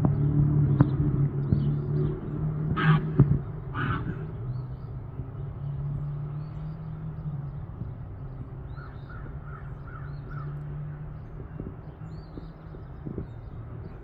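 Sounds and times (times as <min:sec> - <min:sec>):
bird calls: 0:00.1 - 0:14.0.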